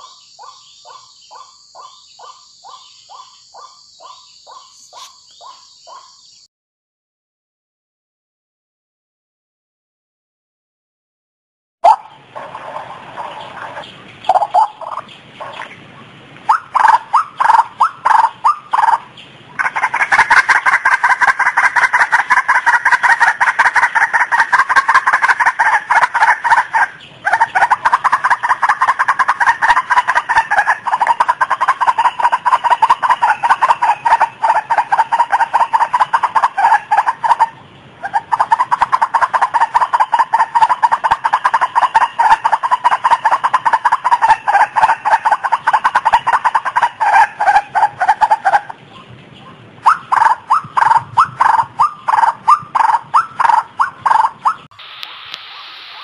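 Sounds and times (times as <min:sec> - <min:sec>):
waterhens calling: 0:00.0 - 0:06.4, 0:11.8 - 0:56.0.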